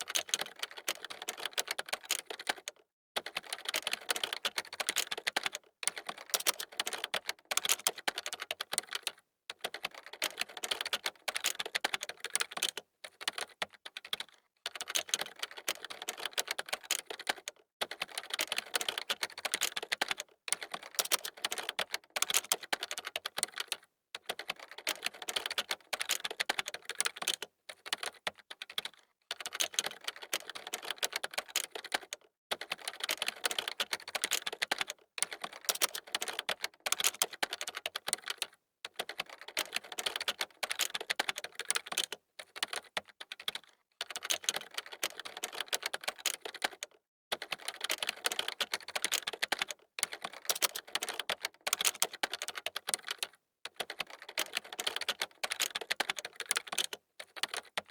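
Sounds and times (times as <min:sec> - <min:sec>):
fast typing on keyboard: 0:00.0 - 0:57.9.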